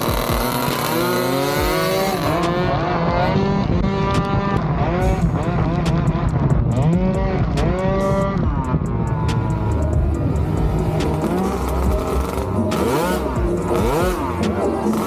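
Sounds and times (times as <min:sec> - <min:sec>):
small motorcycle engine revving: 0:00.0 - 0:15.0.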